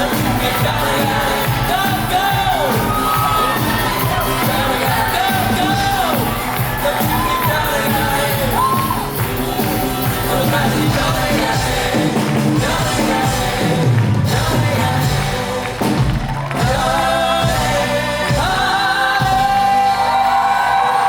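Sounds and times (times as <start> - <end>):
band accompaniment: 0.0 - 21.0
cast singing: 0.0 - 21.0.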